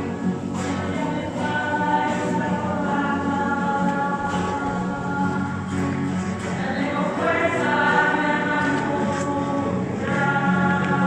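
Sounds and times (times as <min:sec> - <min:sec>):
group singing a hymn: 0:00.0 - 0:11.0.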